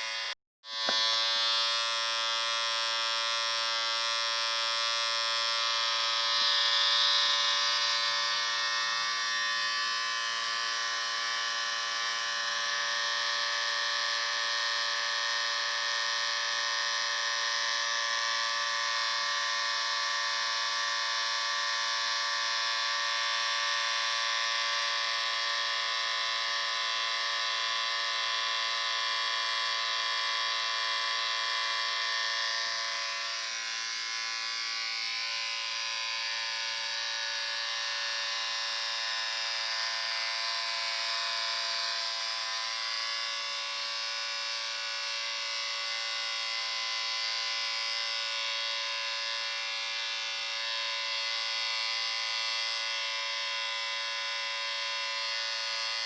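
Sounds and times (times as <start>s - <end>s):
electric shaver buzzing: 0.0s - 56.0s.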